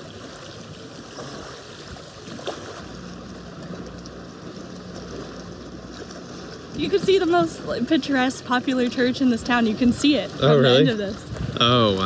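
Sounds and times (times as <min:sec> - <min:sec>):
lake water lapping: 0:00.0 - 0:12.0
wind: 0:00.0 - 0:12.0.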